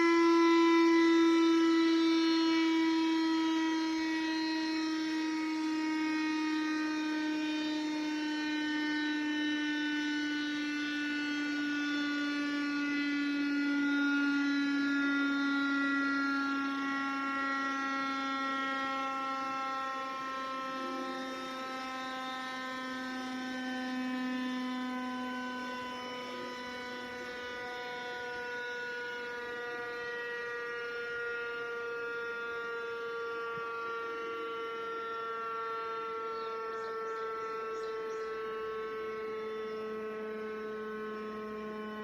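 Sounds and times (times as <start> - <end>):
electric motor siren: 0.0 - 42.0.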